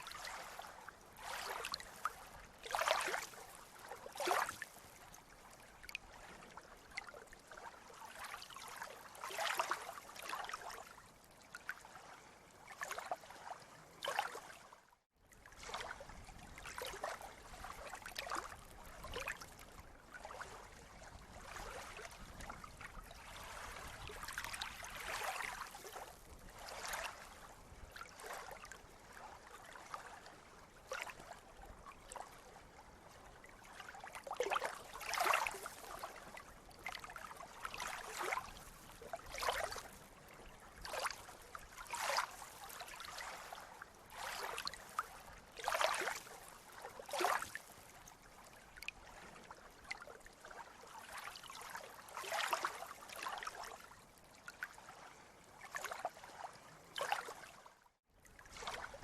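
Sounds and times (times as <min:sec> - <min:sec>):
sea water lapping and splashing: 0:00.0 - 0:59.0.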